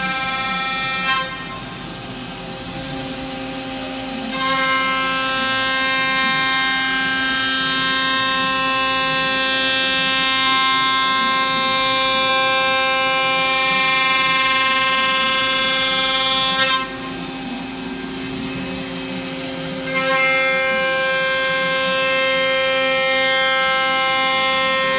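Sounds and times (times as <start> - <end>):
router spindle cutting metal: 0.0 - 24.9.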